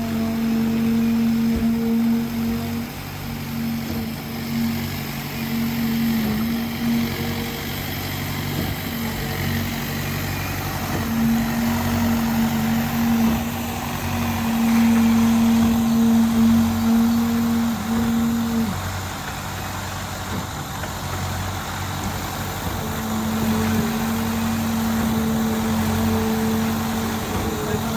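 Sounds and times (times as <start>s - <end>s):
machinery engine droning: 0.0s - 27.9s.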